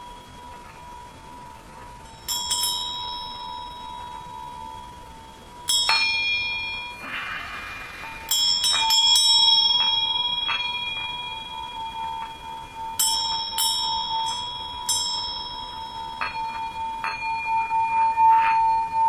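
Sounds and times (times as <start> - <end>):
singing bowls and bells struck: 0.0 - 19.0
sustained humming bowl tone: 0.0 - 19.0.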